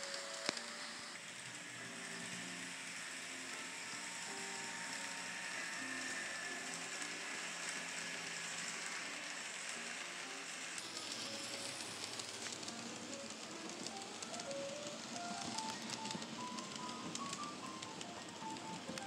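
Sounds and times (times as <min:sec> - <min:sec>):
faint music notes: 0:00.0 - 0:19.0
model train running on track: 0:00.0 - 0:19.0.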